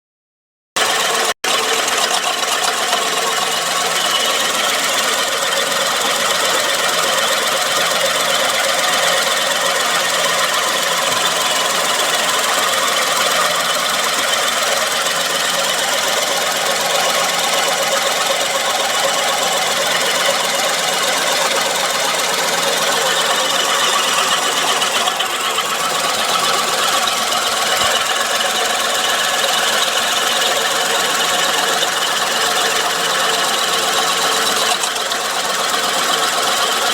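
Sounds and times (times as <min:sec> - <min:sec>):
car engine idling: 0:00.8 - 0:36.9
whirring from belt-driven accessories: 0:00.8 - 0:36.9.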